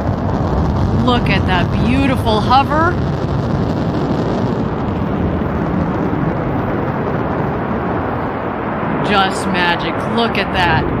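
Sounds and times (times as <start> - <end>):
rocket engine roaring: 0.0 - 11.0.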